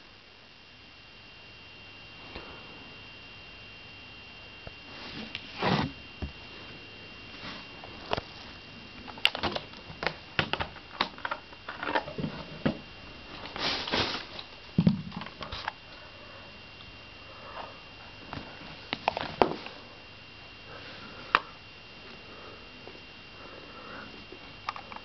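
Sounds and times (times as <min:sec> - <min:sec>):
faint high whine: 0:00.0 - 0:25.0.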